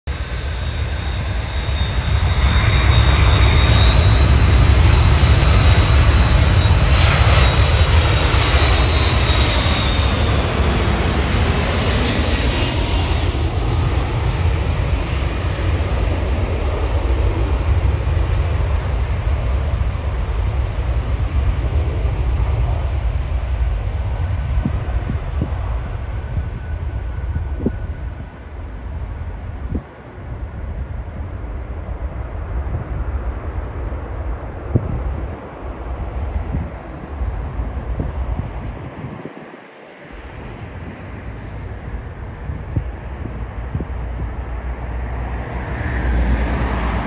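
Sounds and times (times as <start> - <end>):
jet engine high whine: 0.1 - 47.0
jet engines deep rumble: 0.1 - 47.0.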